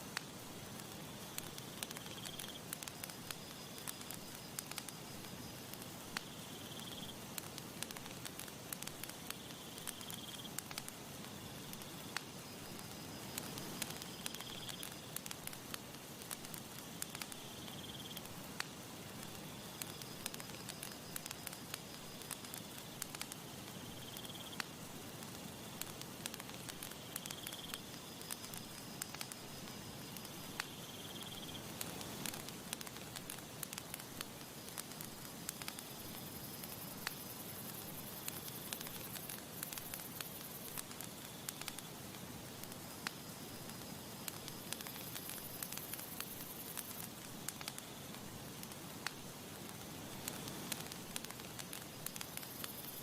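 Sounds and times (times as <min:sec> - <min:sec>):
campfire crackling and popping: 0:00.0 - 0:53.0
steady hiss: 0:00.0 - 0:53.0.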